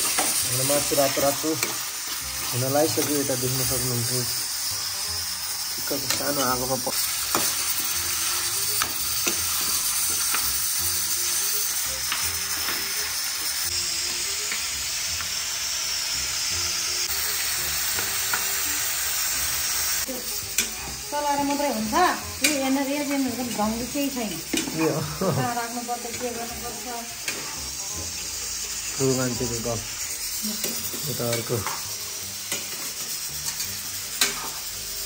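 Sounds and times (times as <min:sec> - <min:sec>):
meat sizzling in a pan: 0:00.0 - 0:35.0.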